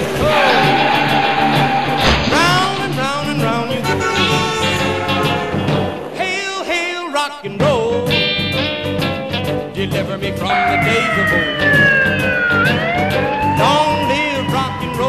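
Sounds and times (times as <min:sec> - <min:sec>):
rock and roll music: 0:00.0 - 0:15.0.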